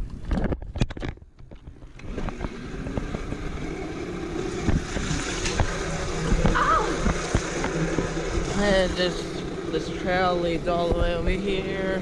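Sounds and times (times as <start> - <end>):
electric dirt bike rumbling: 0.0 - 12.0.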